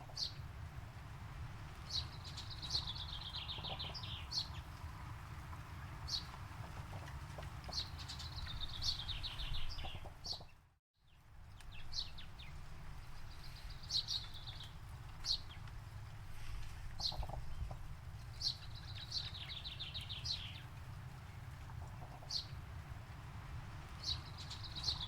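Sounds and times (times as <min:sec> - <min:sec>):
small birds chirping and twittering: 0:00.0 - 0:00.4, 0:01.7 - 0:04.9, 0:06.0 - 0:15.7, 0:16.4 - 0:22.6, 0:24.0 - 0:25.0.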